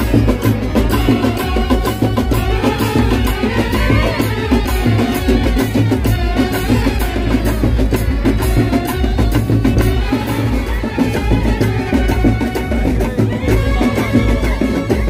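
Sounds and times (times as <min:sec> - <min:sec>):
drums beating a steady rhythm: 0:00.0 - 0:15.0
sustained melody: 0:00.0 - 0:15.0.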